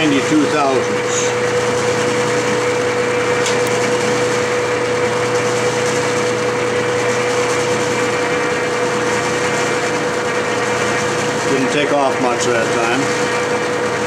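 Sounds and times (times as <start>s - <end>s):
metal lathe humming: 0.0s - 14.0s.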